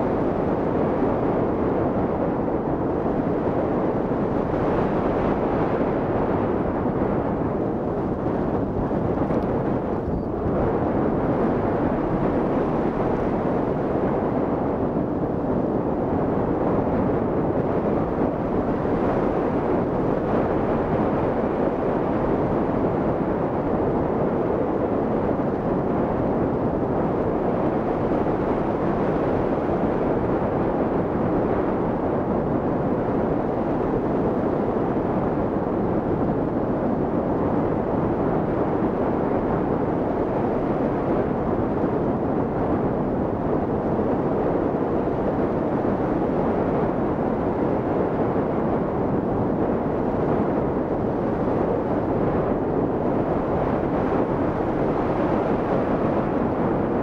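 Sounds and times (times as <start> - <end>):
wind rushing across microphone: 0.0 - 57.0.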